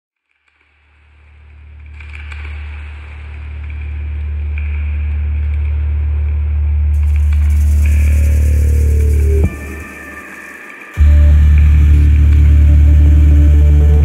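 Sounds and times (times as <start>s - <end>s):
deep low drone: 1.4s - 14.0s.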